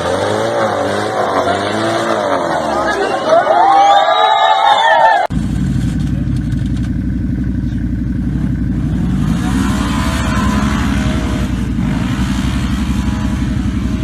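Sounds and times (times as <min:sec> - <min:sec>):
off-road vehicle engine revving: 0:00.0 - 0:03.9, 0:05.2 - 0:14.0.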